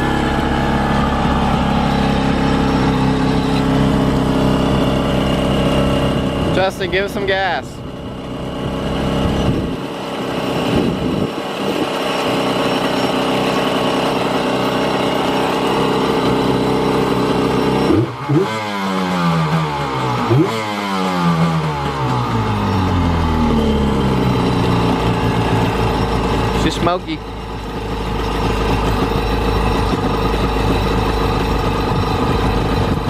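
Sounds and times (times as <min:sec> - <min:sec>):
jet ski engine idling and revving: 0:00.0 - 0:33.0.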